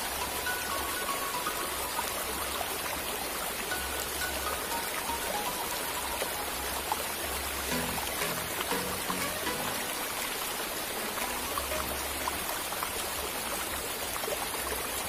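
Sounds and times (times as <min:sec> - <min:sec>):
faint music: 0:00.0 - 0:13.7
water rushing: 0:00.0 - 0:15.0.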